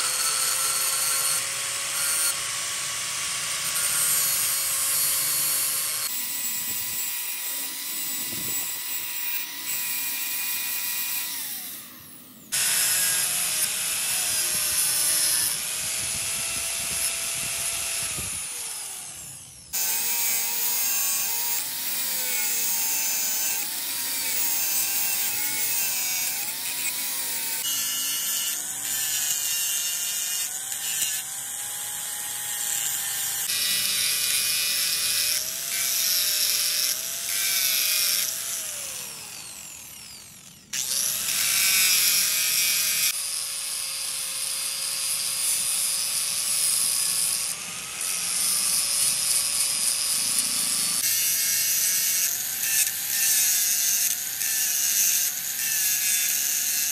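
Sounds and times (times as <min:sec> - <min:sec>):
angle grinder grinding metal: 0:00.0 - 0:56.9.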